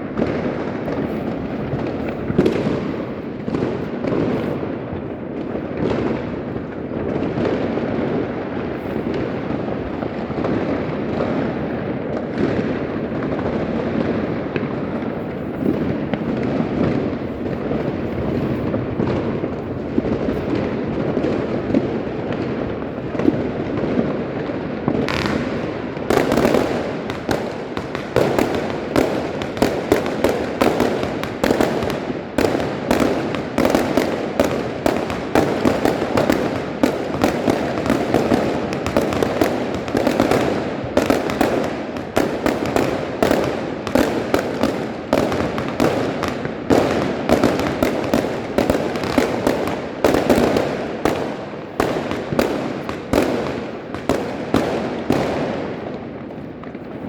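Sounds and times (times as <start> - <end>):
firework cracks and pops: 0.0 - 57.0
fireworks rumble of overlapping bangs: 0.0 - 57.0.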